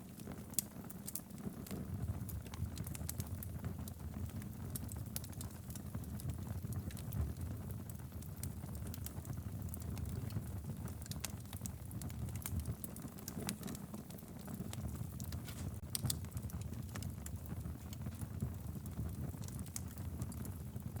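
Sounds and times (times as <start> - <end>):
logs crackling and popping: 0.0 - 21.0
low rumble of flames: 0.0 - 21.0.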